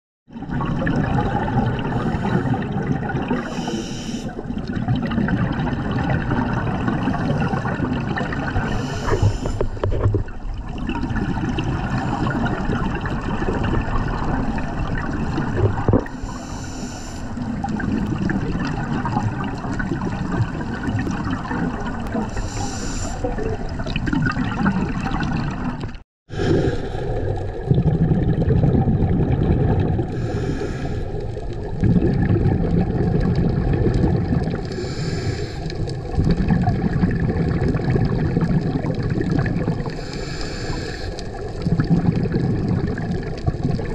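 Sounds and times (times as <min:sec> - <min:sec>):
exhaust bubbles hissing: 0:00.3 - 0:43.9
underwater gurgling water noise: 0:00.3 - 0:43.9.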